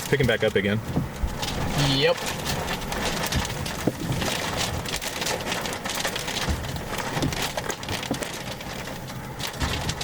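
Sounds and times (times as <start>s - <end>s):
rain pelting a car: 0.0s - 10.0s.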